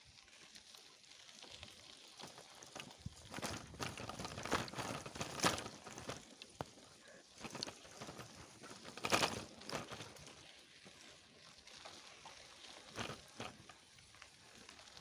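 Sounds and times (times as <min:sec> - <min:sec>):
rustling on dry forest floor: 0:01.3 - 0:15.0.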